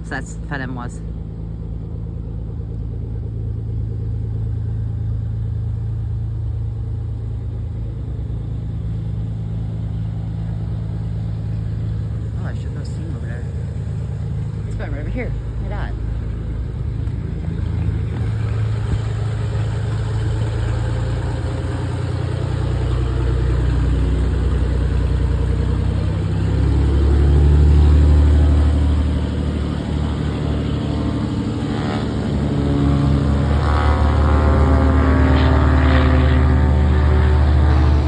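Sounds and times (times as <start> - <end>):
propeller airplane engine running: 0.0 - 38.0.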